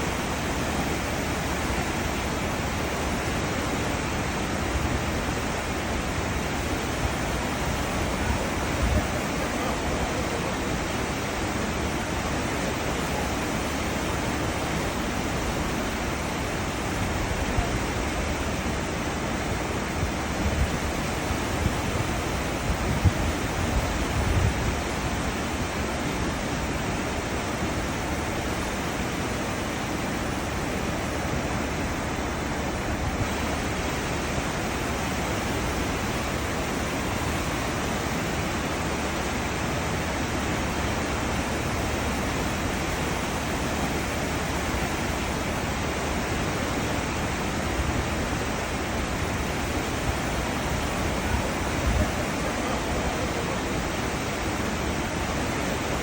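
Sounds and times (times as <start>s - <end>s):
seawater rushing and hissing: 0.0s - 56.0s.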